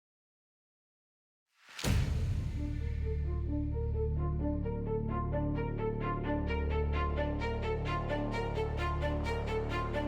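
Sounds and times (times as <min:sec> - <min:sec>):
orchestral background music: 0:01.8 - 0:10.0.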